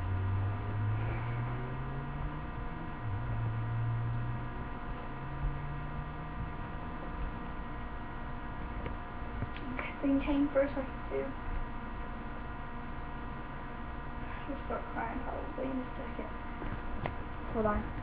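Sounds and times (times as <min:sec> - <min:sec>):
electrical hum and whine: 0:00.0 - 0:18.0
low drone rising in pitch: 0:00.0 - 0:18.0.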